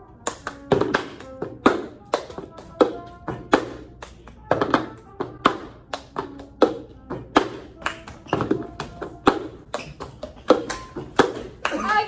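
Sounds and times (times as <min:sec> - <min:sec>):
music: 0:00.0 - 0:12.0
hand claps: 0:00.2 - 0:12.0.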